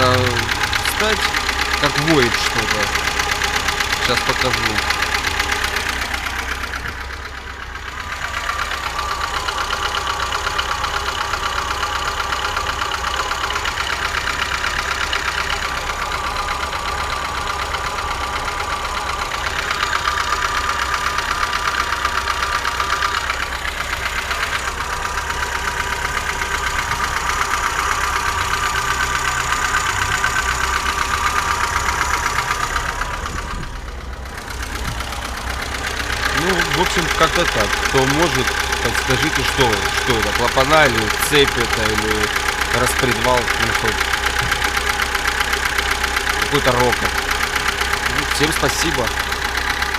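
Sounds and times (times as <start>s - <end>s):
car engine idling: 0.0s - 49.9s
engine knocking rattle: 0.0s - 49.9s
engine whine: 0.0s - 49.9s.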